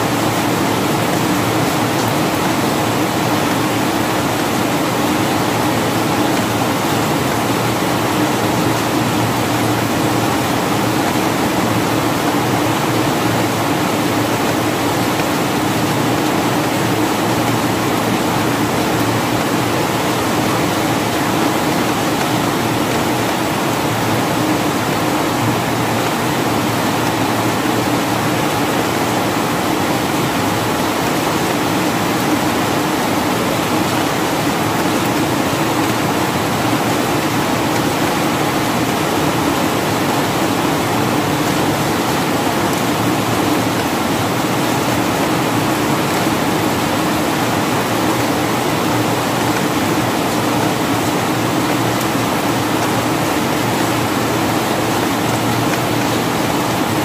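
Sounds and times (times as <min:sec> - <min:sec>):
rain falling steadily: 0:00.0 - 0:57.0.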